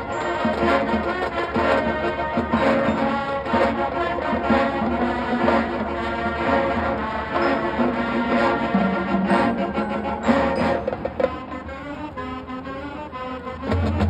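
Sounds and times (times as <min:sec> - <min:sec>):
marching percussion strikes: 0:00.0 - 0:12.4, 0:13.7 - 0:14.0
brass sustained chords: 0:00.0 - 0:14.0.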